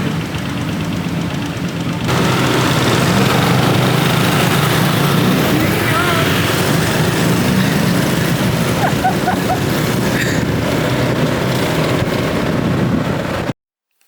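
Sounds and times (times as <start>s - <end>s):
motorbike engines running: 0.0s - 13.6s.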